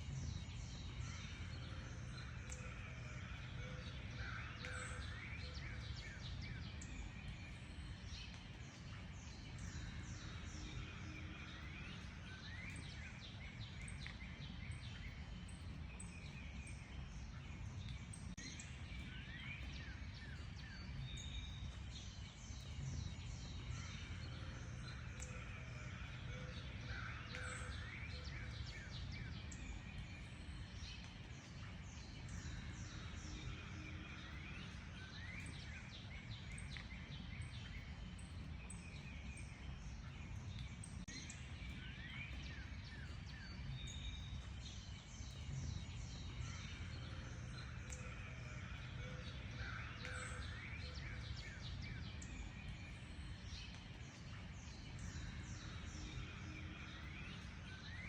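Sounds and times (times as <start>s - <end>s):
birds chirping and singing: 0.1s - 58.0s.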